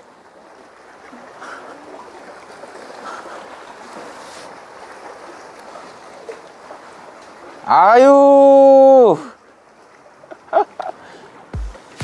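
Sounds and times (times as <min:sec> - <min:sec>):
waves against concrete blocks: 0:00.0 - 0:12.0.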